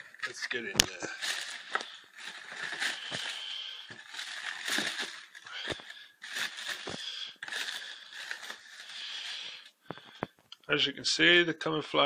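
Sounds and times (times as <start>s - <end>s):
tissue paper rustling: 0.0s - 9.8s.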